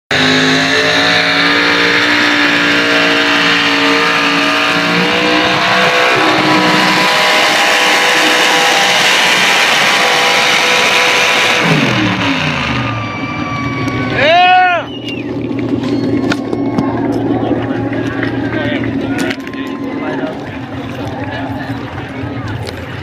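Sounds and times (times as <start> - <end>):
truck engine straining at high revs: 0.1 - 23.0.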